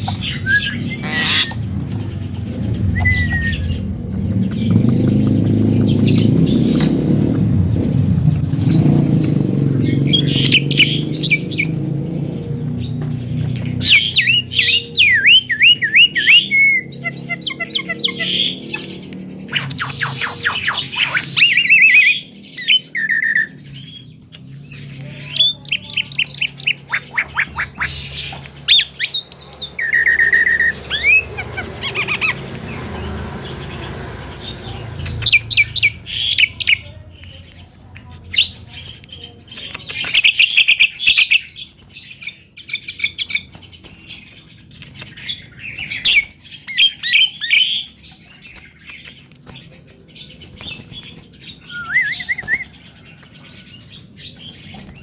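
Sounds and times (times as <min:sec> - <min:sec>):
bird harsh squawks and chatter: 0:00.0 - 0:04.9, 0:09.6 - 0:55.0.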